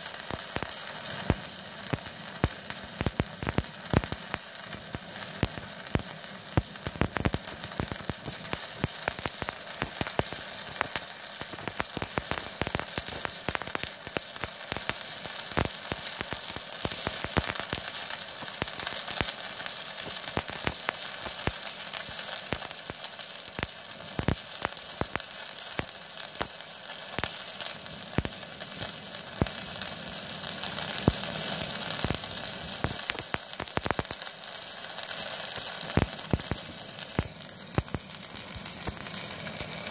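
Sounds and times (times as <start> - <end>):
welding arc crackling and popping: 0.0 - 39.9.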